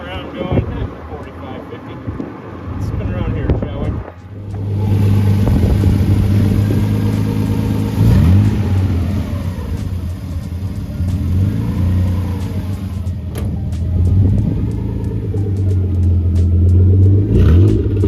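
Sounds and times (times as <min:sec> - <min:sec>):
car engine revving: 0:02.1 - 0:18.0.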